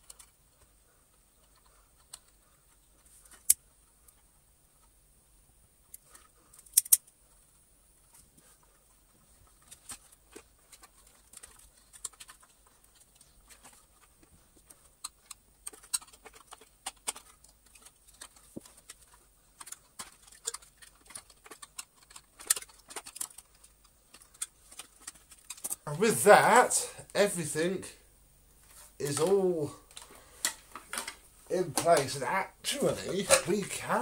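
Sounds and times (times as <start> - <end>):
plastic parts clicking: 0.0 - 4.9, 5.9 - 7.4, 8.0 - 25.9, 28.6 - 32.1.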